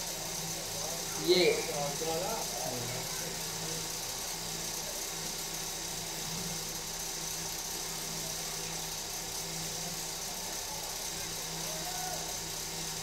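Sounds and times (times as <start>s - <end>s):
constant hiss: 0.0s - 13.0s.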